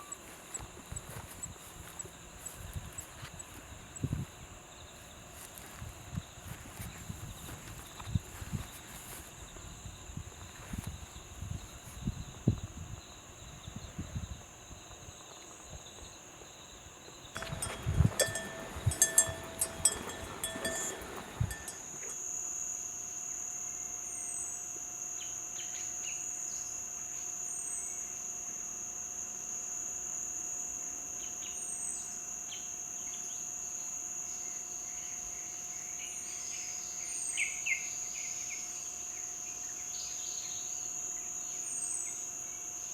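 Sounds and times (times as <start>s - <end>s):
insects droning: 0.0s - 42.9s.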